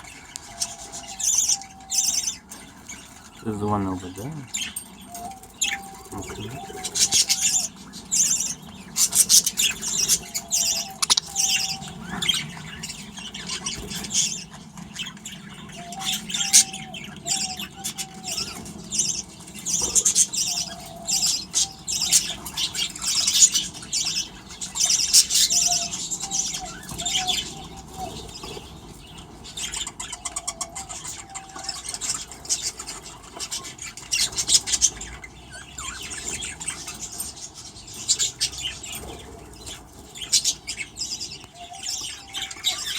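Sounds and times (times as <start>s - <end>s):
budgerigars chirping and chattering: 0.0s - 42.9s.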